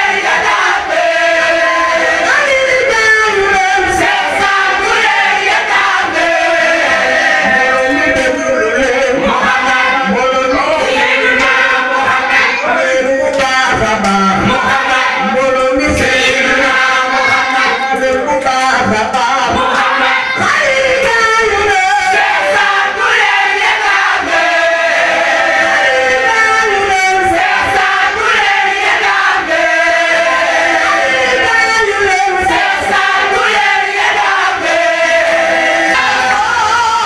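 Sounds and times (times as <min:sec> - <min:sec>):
lead voice on a microphone: 0:00.0 - 0:37.0
mixed choir singing a chant: 0:00.0 - 0:37.0.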